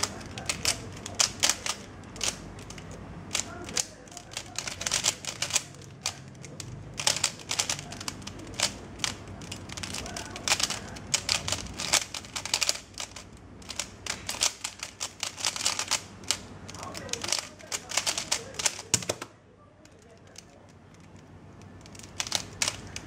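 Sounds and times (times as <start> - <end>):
plastic puzzle cube clacking: 0.0 - 23.0.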